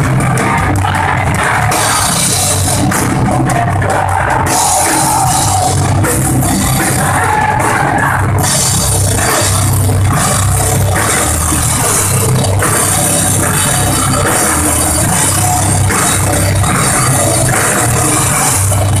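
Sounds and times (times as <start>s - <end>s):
distorted electric guitars: 0.0s - 19.0s
drum kit: 0.0s - 19.0s.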